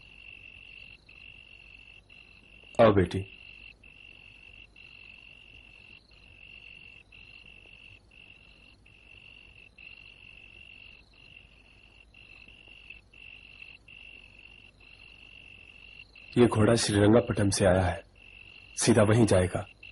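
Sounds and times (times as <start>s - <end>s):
crickets trilling: 0.0s - 19.9s.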